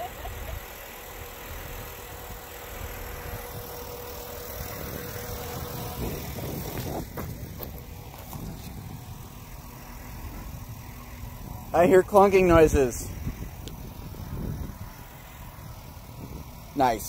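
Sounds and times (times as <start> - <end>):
engine running low: 0.0 - 17.0
faint steady whine: 0.0 - 17.0.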